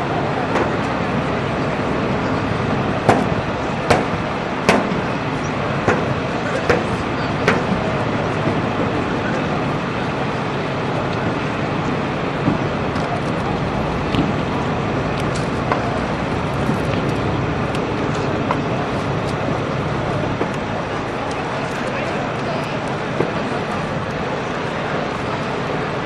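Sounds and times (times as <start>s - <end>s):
engines droning: 0.0s - 26.0s.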